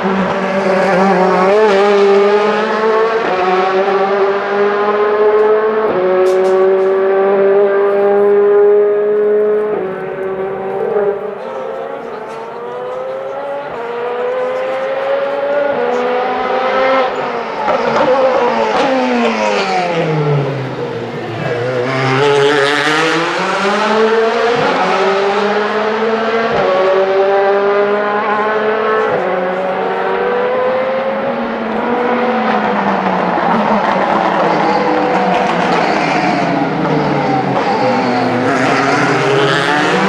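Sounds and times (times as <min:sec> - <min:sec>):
race car engines accelerating: 0:00.0 - 0:40.0.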